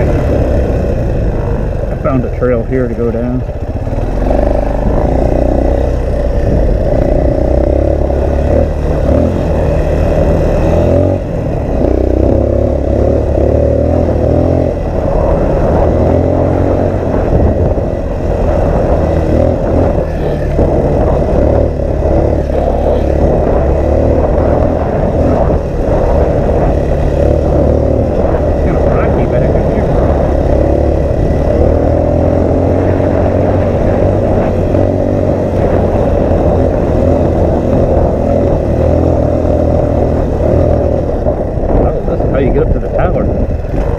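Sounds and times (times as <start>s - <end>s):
off-road vehicle engine running: 0.0s - 43.9s
wind noise on microphone: 0.0s - 43.9s.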